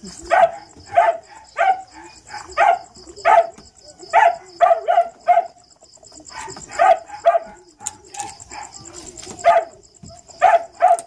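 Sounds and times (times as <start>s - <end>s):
dog barking: 0.3s - 5.6s, 6.3s - 7.6s, 8.2s - 11.0s.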